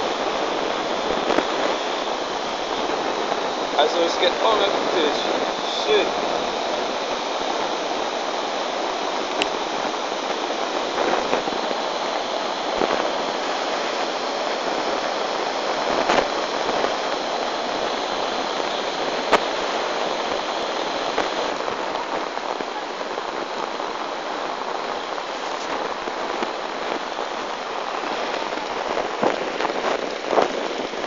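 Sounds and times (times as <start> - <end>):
flooded river rushing: 0.0 - 31.0.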